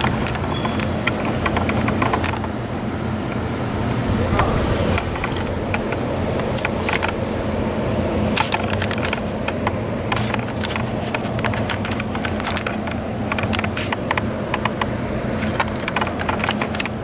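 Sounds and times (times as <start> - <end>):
sharp clicks and crackles: 0.0 - 2.7, 4.3 - 7.3, 8.3 - 17.0
wind rumble: 0.0 - 14.2
city noise: 0.0 - 17.0.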